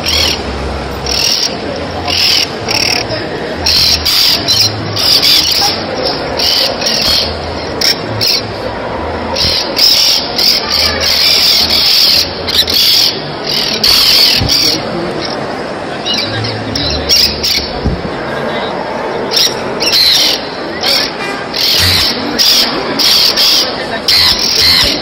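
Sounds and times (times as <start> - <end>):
starlings chattering: 0.0 - 8.7, 9.3 - 18.2, 19.3 - 25.0.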